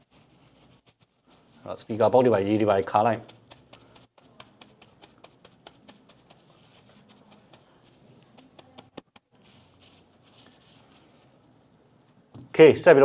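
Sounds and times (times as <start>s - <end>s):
tissue rustling: 0.0s - 12.2s.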